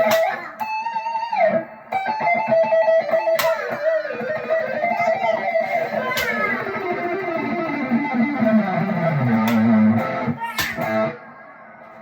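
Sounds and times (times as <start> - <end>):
electric guitar playing lead: 0.0 - 12.0.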